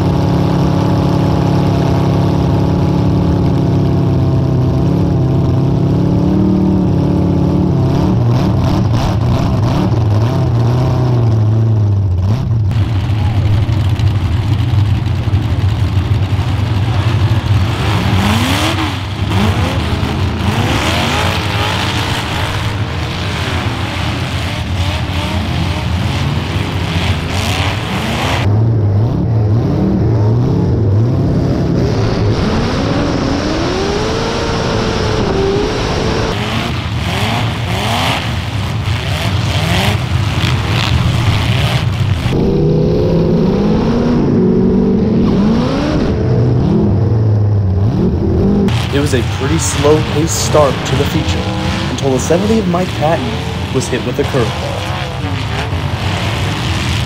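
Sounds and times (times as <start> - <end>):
car engines revving hard: 0.0 - 57.0.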